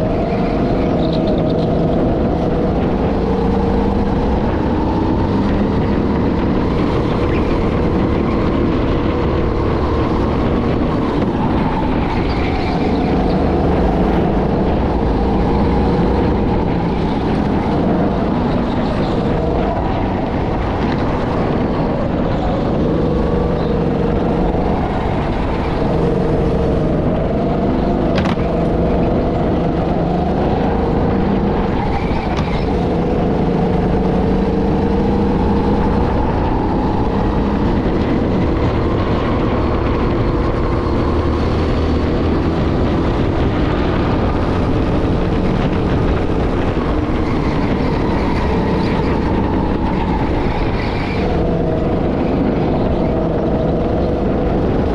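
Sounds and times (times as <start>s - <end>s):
go-kart engine revving: 0.0s - 54.9s.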